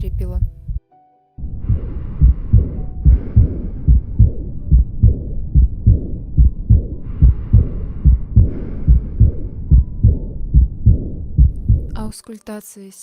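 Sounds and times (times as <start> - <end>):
heartbeat thuds: 0.0 - 12.0
heart murmur: 1.4 - 12.0.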